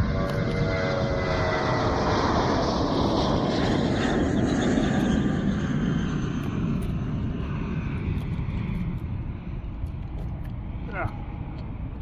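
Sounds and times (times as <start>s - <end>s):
aircraft rumbling overhead: 0.0s - 12.0s.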